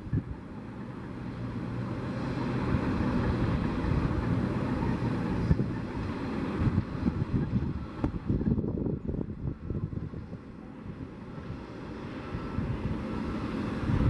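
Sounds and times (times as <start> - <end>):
distant jet engine: 0.0 - 14.0
wind buffeting microphone: 0.0 - 14.0.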